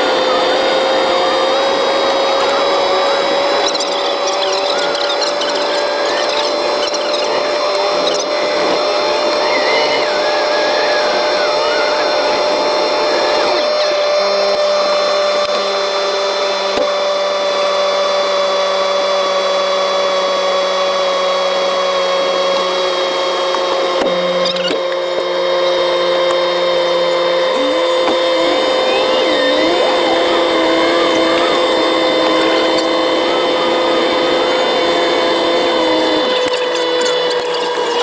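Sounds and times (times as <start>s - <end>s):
snow vehicle mechanical whine: 0.0s - 38.0s.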